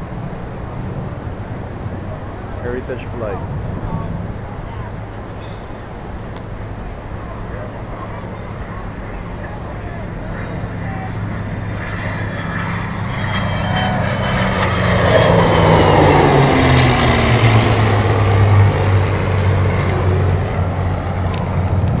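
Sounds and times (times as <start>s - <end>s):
aircraft engines flying past: 0.0s - 22.0s.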